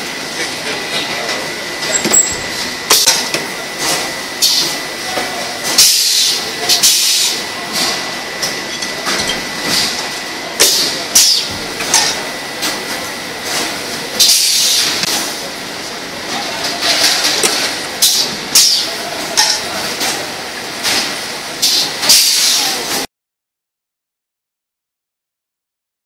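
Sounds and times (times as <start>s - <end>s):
thin steady whine: 0.0s - 21.6s
workshop noise: 0.0s - 23.1s.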